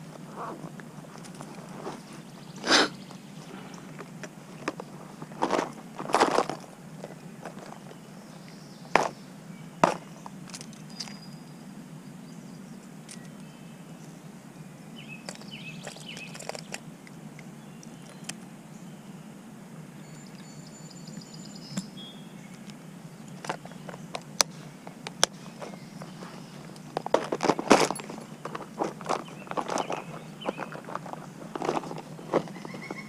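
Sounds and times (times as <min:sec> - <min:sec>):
low outdoor background: 0:00.0 - 0:33.0.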